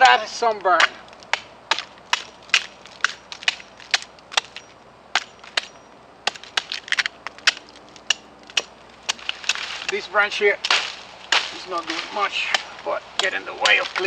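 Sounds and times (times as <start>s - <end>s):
bark cracking and snapping: 0.7s - 10.0s, 10.6s - 14.0s.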